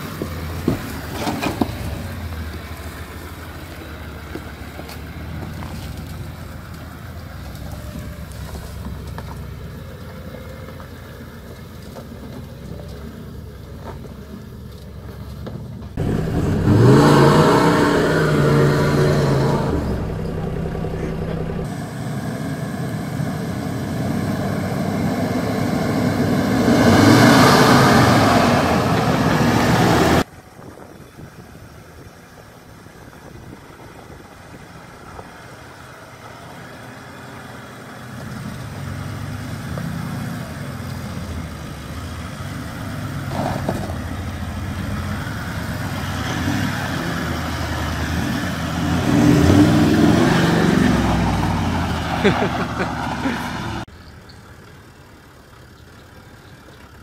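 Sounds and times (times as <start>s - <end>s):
off-road engines revving: 0.0s - 30.3s, 33.0s - 57.0s
tyres spinning on loose dirt: 0.0s - 57.0s.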